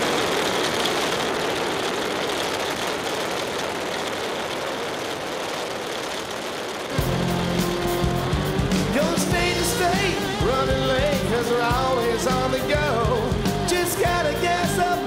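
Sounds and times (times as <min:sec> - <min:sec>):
rushing motor vehicle noise: 0:00.0 - 0:15.0.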